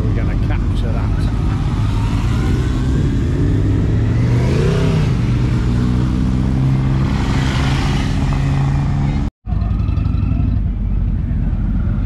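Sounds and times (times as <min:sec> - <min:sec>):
engine revving: 0:00.0 - 0:10.4
car engines running: 0:00.0 - 0:12.0.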